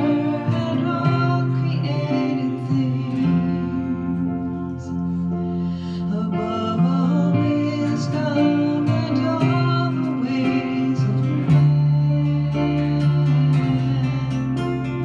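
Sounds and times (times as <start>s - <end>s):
people singing: 0.0s - 5.0s, 6.1s - 15.0s
acoustic guitar: 0.0s - 15.0s
held keyboard notes: 0.0s - 15.0s.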